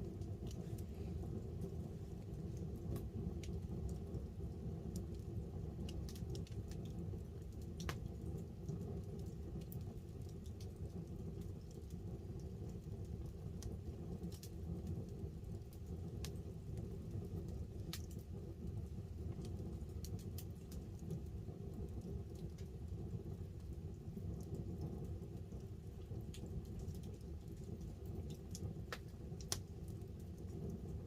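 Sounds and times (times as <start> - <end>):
light rain pattering: 0.0 - 31.0
wood fire crackling and popping: 0.0 - 31.0.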